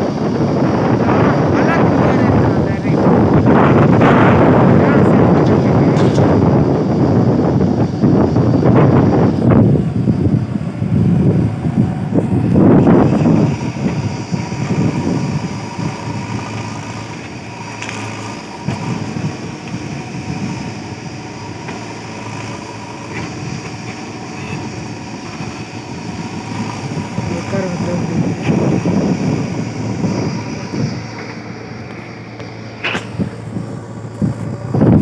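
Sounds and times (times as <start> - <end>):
diesel engine working under load: 0.0 - 35.0.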